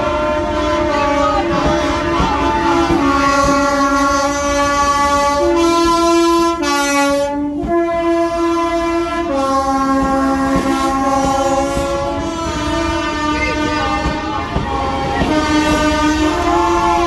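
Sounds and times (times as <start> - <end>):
two-tone train horn: 0.0 - 17.0.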